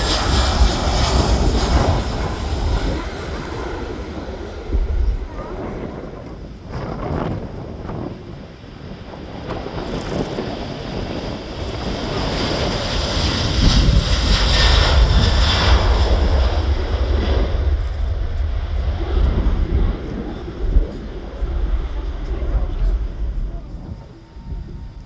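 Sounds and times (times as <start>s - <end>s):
jet engines on takeoff: 0.0s - 25.0s.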